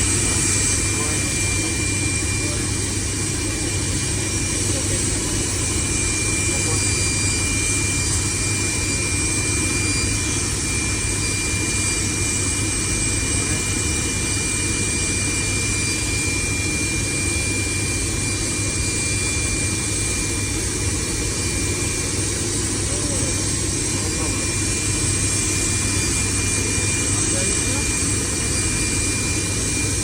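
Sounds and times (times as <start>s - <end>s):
high whine: 0.0s - 30.0s
turbine running: 0.0s - 30.0s.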